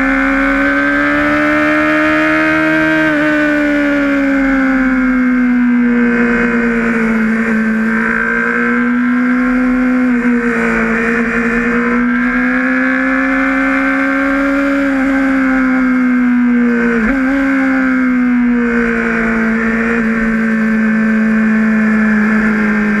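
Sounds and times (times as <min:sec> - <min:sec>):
motorcycle engine running hard: 0:00.0 - 0:23.0.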